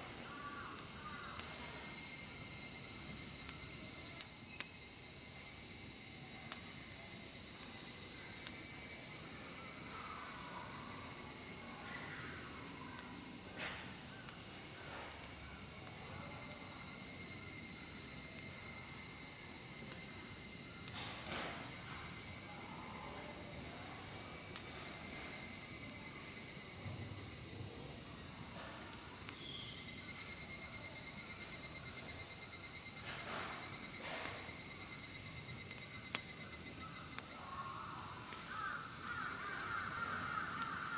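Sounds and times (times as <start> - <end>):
insects shrilling: 0.0 - 40.9.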